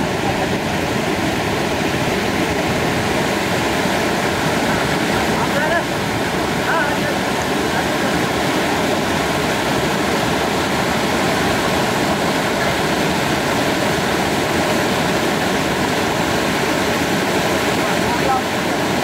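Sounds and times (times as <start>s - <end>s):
waterfall rushing over rock: 0.0s - 19.0s.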